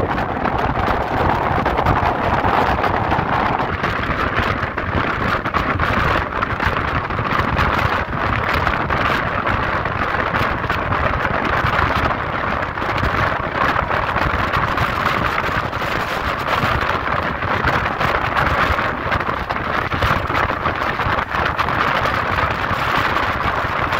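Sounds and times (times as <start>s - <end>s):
train coach running at speed: 0.0s - 23.9s
wind rushing over microphone: 0.0s - 23.9s.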